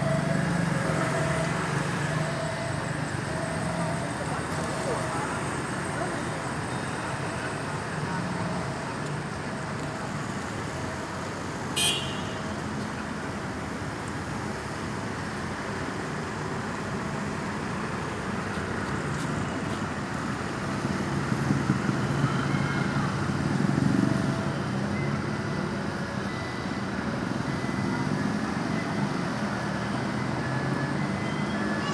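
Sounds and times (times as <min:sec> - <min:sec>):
vehicles passing: 0:00.0 - 0:31.9.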